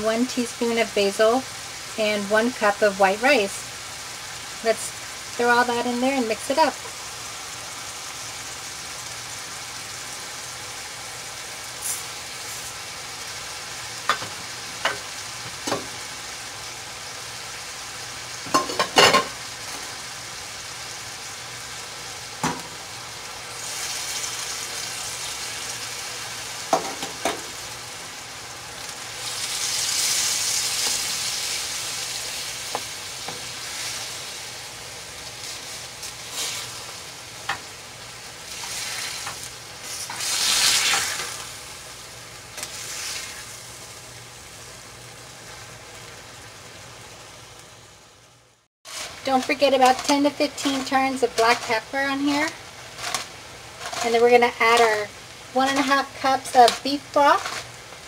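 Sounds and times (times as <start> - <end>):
meat and peppers sizzling in a pan: 0.0 - 58.0.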